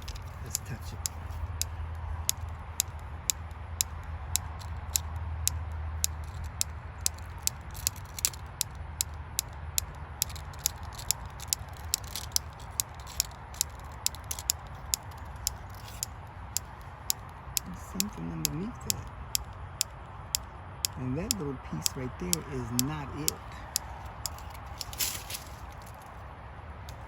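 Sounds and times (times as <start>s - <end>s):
insect clicking: 0.0s - 26.1s.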